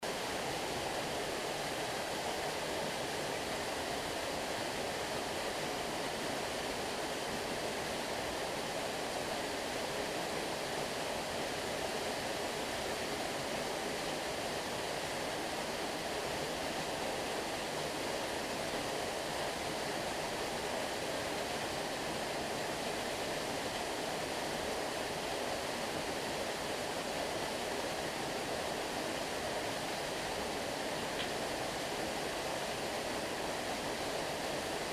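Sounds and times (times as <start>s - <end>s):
small waterfall rushing: 0.0s - 34.9s.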